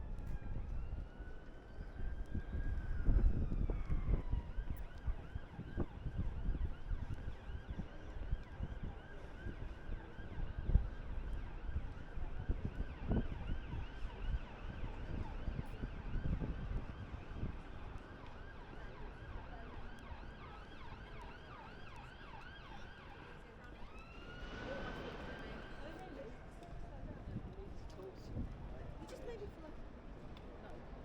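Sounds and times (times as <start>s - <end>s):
low street rumble: 0.0s - 31.0s.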